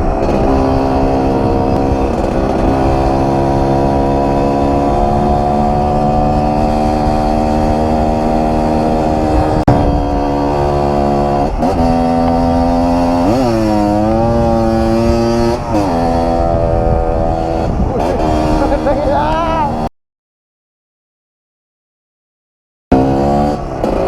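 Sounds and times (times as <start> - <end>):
two-stroke engine running: 0.0 - 19.6.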